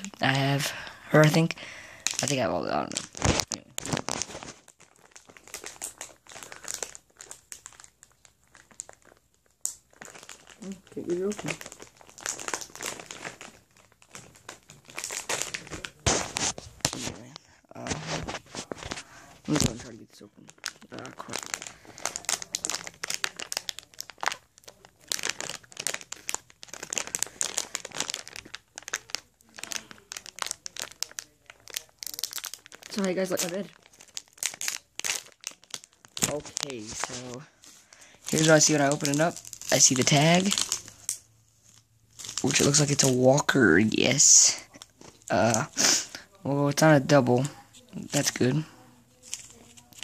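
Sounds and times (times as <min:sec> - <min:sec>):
plastic packet crinkling: 0:00.0 - 0:50.0.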